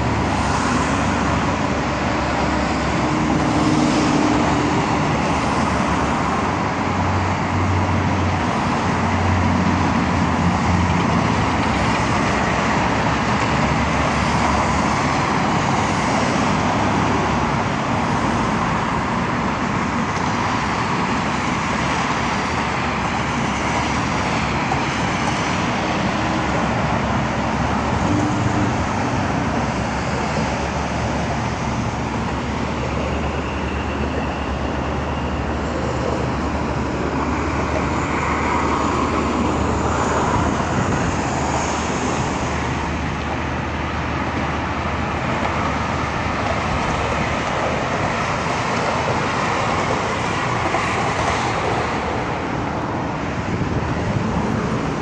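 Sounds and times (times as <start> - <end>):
car and truck engines humming: 0.0 - 55.0
tyres hissing on road: 0.0 - 55.0.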